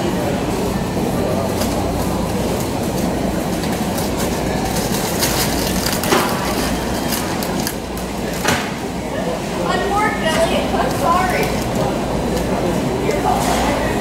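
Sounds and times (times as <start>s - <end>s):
supermarket background hum: 0.0s - 14.0s.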